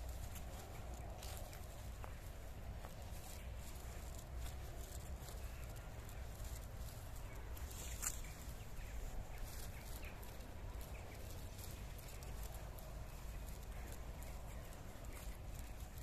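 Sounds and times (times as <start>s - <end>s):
footsteps on forest path: 0.0s - 16.0s.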